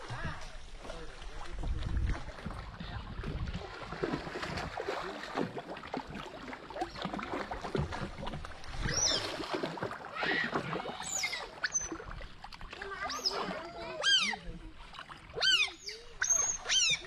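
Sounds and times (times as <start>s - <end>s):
water splashing and churning: 0.0s - 17.0s.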